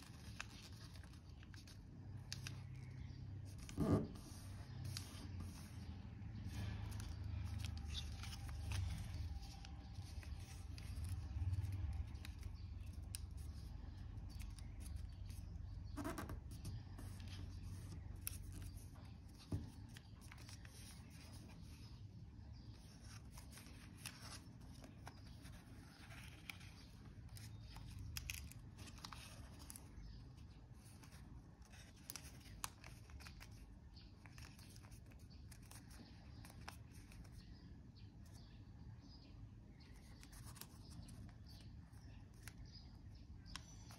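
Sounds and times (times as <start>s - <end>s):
paper rustling and crinkling: 0.0s - 37.5s, 39.8s - 42.7s.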